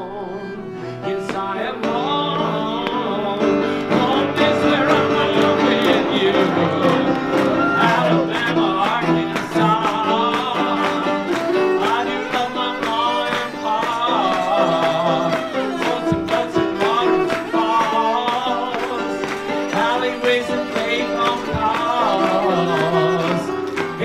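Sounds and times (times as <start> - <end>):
cello playing: 0.0 - 24.0
grand piano: 0.0 - 24.0
man singing a ballad: 0.0 - 24.0.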